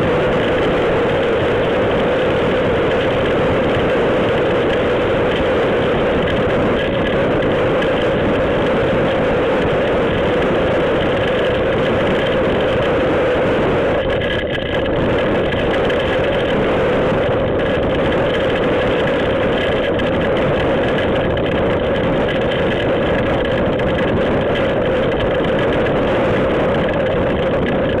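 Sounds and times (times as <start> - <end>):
storm wind: 0.0 - 28.0.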